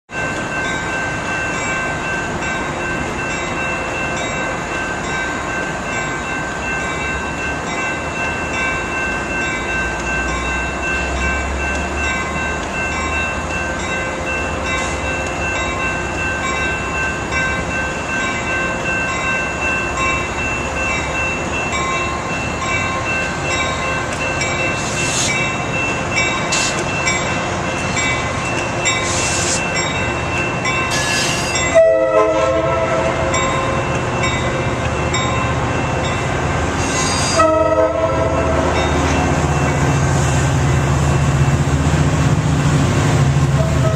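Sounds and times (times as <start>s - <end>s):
diesel train engine rumble: 0.1s - 43.9s.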